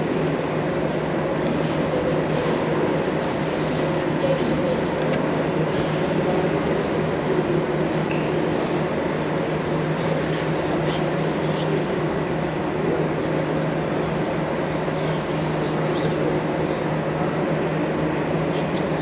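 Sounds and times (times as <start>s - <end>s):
murmur of people: 0.0s - 19.0s.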